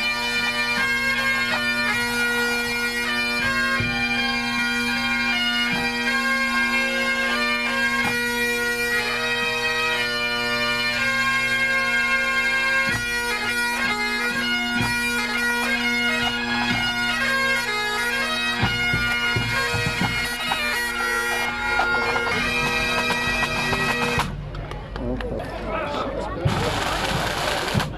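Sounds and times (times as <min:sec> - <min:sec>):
bagpipes playing: 0:00.0 - 0:24.6, 0:26.4 - 0:27.9.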